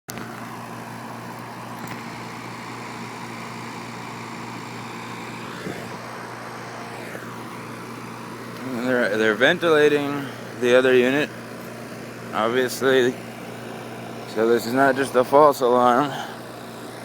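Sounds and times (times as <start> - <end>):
fire engine idling hum: 0.1 - 17.0.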